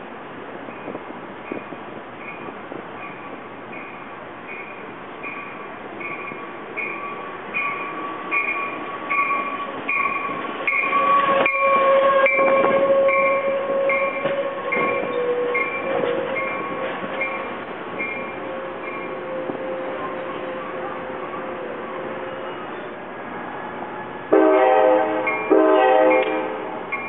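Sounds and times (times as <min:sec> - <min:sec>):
train rumbling past: 0:00.0 - 0:27.0
locomotive bell ringing: 0:00.7 - 0:23.0, 0:24.3 - 0:27.0
train wheels squealing: 0:00.7 - 0:24.3.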